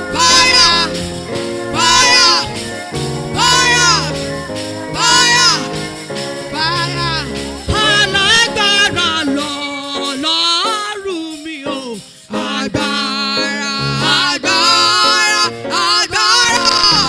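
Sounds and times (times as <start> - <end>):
instrumental accompaniment: 0.0 - 17.0
person singing with vibrato: 0.0 - 17.0.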